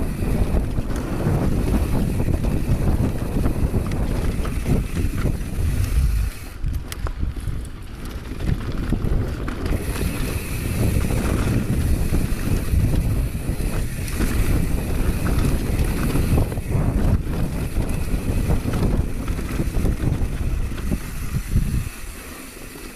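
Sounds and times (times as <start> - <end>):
wind rushing over microphone: 0.0 - 22.2
bike rattling: 0.0 - 22.9
tyres rumbling over dirt and rock: 0.1 - 22.2.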